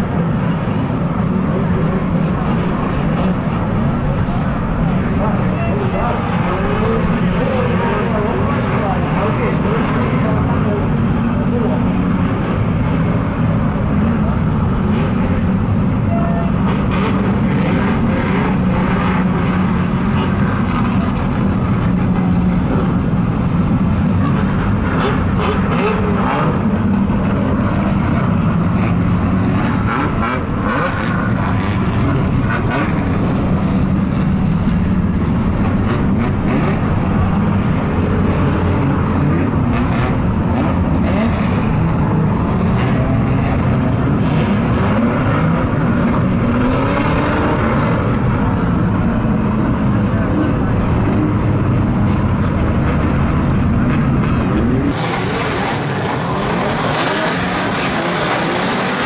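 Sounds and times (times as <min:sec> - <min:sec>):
car engines droning and revving: 0:00.0 - 0:59.0.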